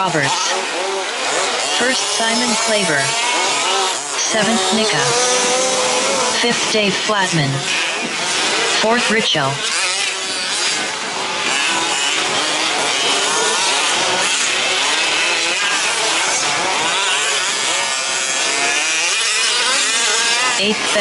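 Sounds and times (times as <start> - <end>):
rc truck engines buzzing: 0.0 - 21.0.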